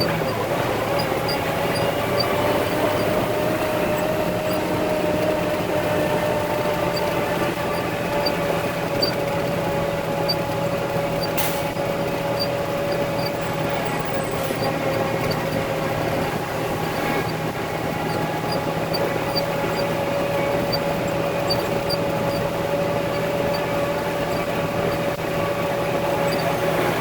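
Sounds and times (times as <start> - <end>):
steady whine: 0.0 - 27.0
truck diesel engine running: 0.0 - 27.0.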